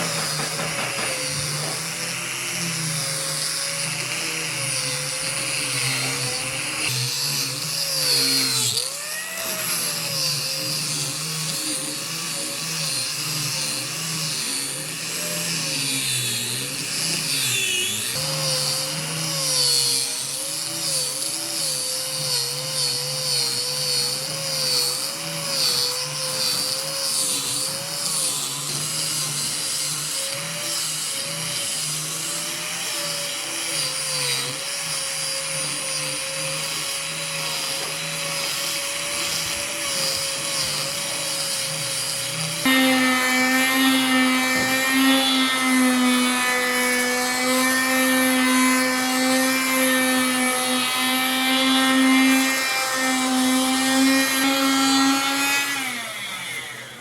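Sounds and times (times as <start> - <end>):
power tool motor on wood: 0.0 - 57.0.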